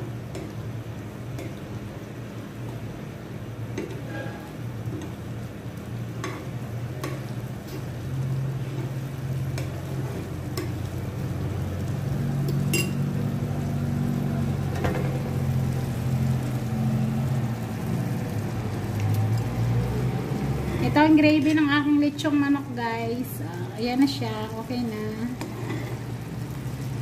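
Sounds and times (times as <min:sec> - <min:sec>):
gravy simmering and bubbling: 0:00.0 - 0:21.3, 0:23.2 - 0:27.0.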